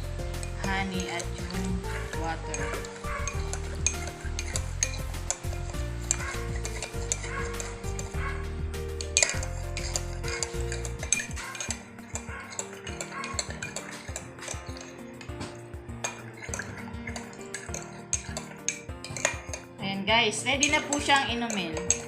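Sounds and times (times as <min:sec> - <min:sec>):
background music: 0:00.0 - 0:22.0
spoon clinking against glass: 0:00.3 - 0:19.7, 0:20.6 - 0:22.0.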